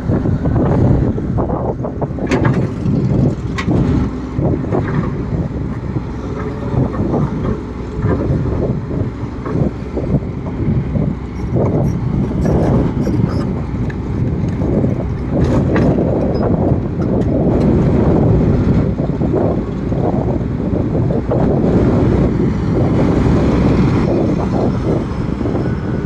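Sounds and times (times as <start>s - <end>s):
excavator diesel engine under load: 0.0s - 26.0s
wind buffeting microphone: 0.0s - 26.0s.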